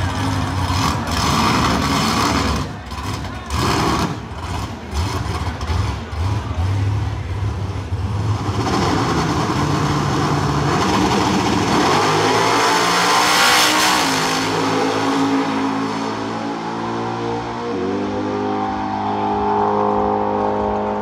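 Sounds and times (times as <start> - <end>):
drag car engine revving: 0.0 - 21.0.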